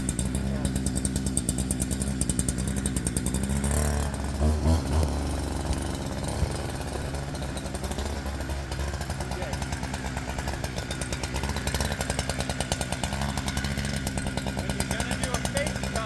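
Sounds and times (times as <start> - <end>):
two-stroke chainsaw engine revving: 0.0 - 16.0.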